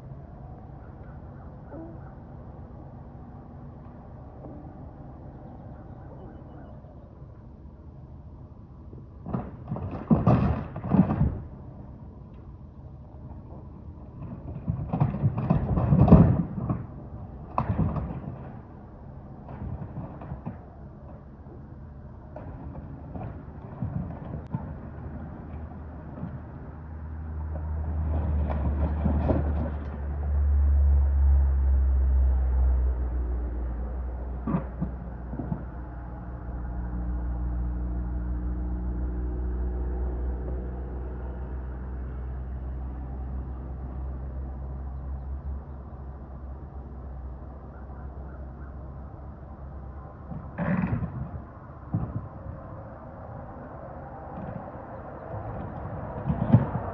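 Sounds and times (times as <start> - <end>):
excavator diesel engine: 0.0 - 56.9.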